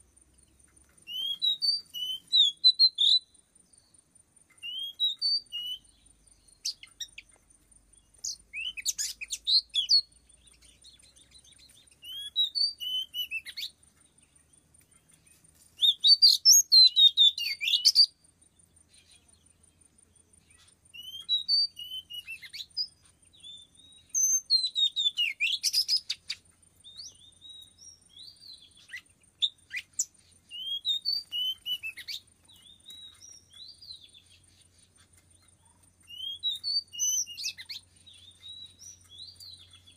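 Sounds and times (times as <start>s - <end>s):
bird singing whistled chirps: 0.0s - 39.9s.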